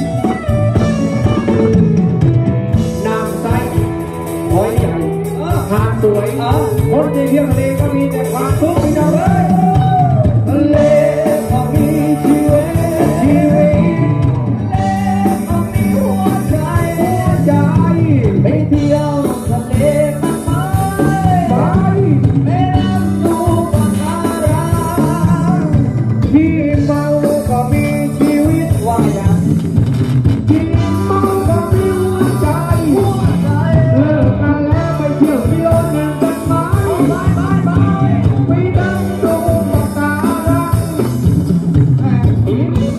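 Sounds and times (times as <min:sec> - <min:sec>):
live band playing dance song: 0:00.0 - 0:42.9
person singing: 0:02.7 - 0:29.7, 0:30.5 - 0:42.9.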